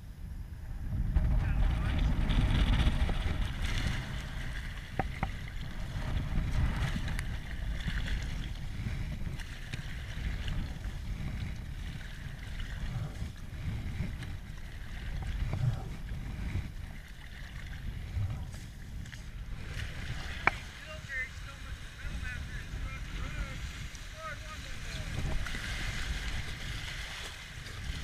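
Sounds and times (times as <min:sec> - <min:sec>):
wind rumble on microphone: 0:00.0 - 0:28.0
river water moving around raft: 0:01.1 - 0:28.0.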